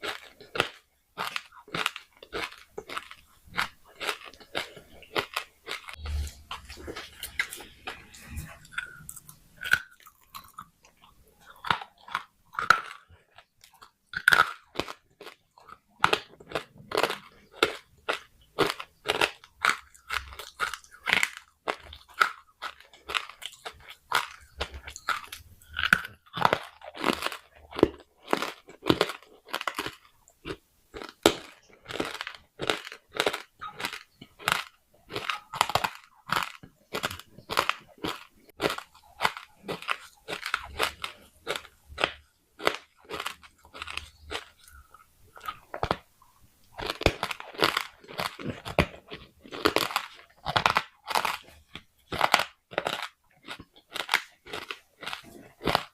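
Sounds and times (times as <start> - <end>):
person crunching clay pot pieces: 0.0 - 30.1, 31.0 - 46.1, 46.8 - 55.9.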